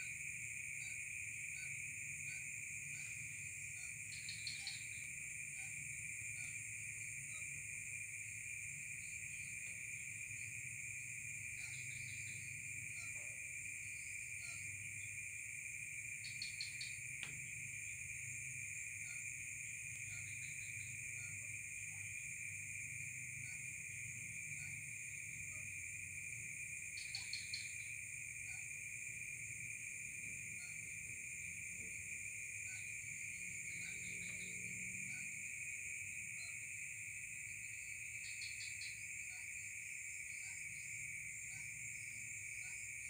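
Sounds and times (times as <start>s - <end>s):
clicky insect calls: 0.0s - 43.0s
insect chirps: 0.0s - 43.0s
insects trilling: 0.0s - 43.0s.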